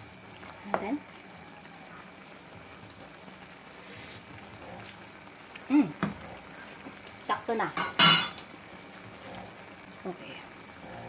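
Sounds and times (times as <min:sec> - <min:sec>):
food simmering with bubbling hiss: 0:00.0 - 0:11.0.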